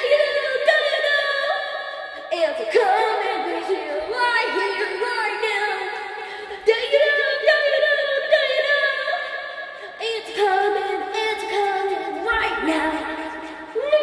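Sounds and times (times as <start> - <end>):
woman singing with music: 0.0 - 14.0.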